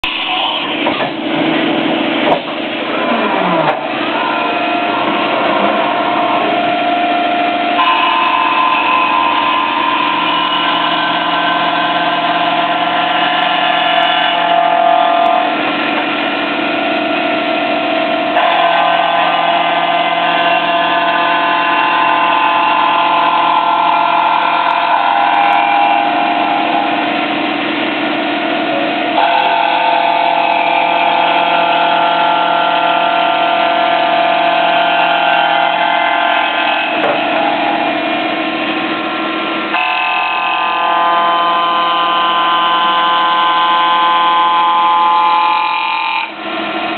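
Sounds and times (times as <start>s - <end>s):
milling machine whine: 0.0s - 46.9s.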